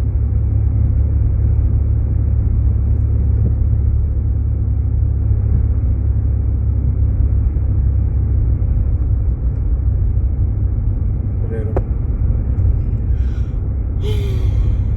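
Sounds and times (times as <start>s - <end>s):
road and engine rumble in car: 0.0s - 14.9s.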